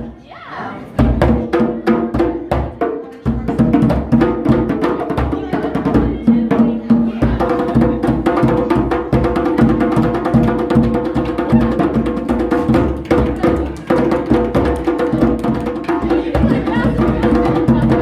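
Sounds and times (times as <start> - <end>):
hand drums playing: 1.0 - 18.0.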